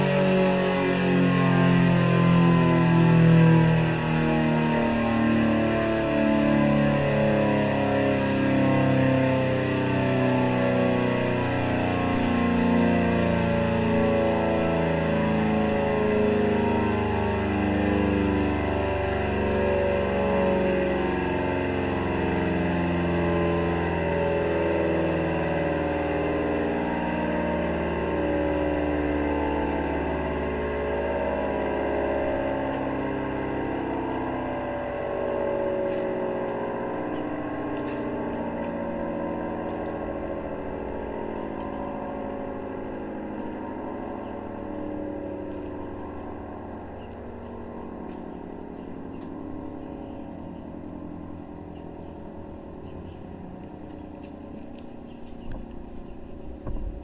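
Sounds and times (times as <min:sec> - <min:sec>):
siren sounding a chord: 0:00.0 - 0:57.0.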